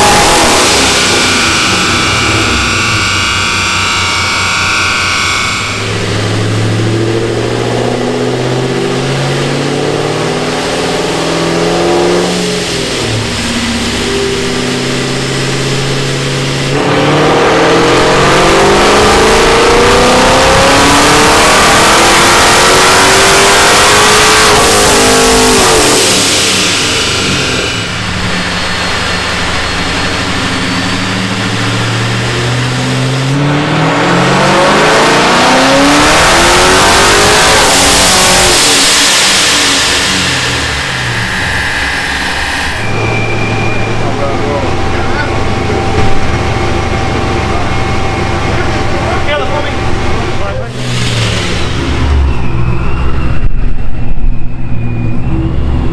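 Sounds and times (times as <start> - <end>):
car engine revving on dyno: 0.0 - 55.9.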